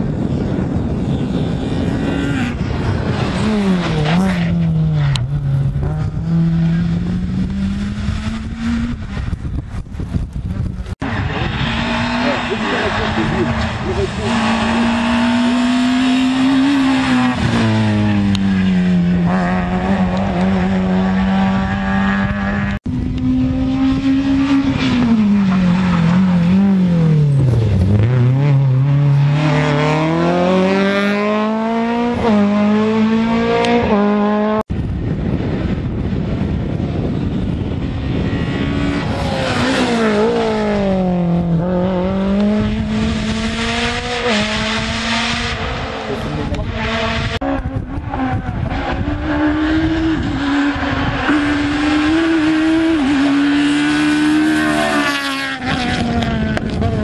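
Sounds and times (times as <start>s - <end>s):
rally car engines revving high: 0.0s - 9.6s, 10.4s - 57.0s.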